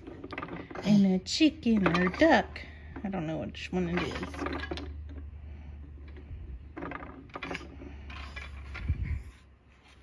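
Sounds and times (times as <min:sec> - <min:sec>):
wooden beads clicking and clacking: 0:00.0 - 0:09.1.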